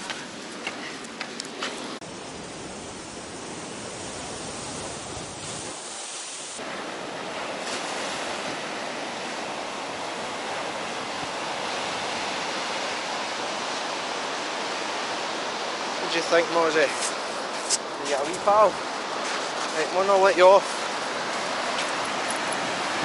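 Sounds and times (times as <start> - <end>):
surf washing up a beach: 1.8 - 23.0
waves breaking against a sea wall: 4.0 - 23.0.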